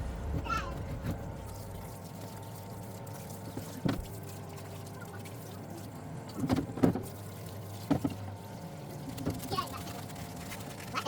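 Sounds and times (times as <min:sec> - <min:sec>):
pump humming: 0:00.0 - 0:11.0
fluid pouring and trickling: 0:01.2 - 0:11.0.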